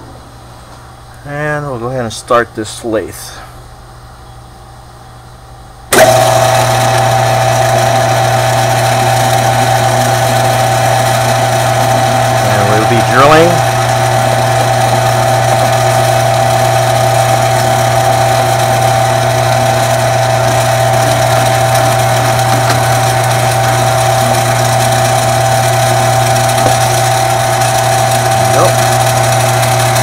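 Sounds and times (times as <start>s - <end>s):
lathe chuck whine: 5.9s - 30.0s
lathe humming: 5.9s - 30.0s.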